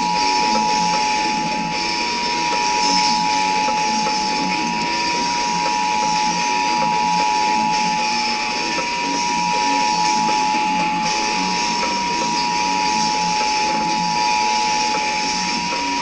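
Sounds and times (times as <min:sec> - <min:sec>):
music with guitar and drums: 0:00.0 - 0:16.0
two-tone alert signal: 0:00.0 - 0:16.0.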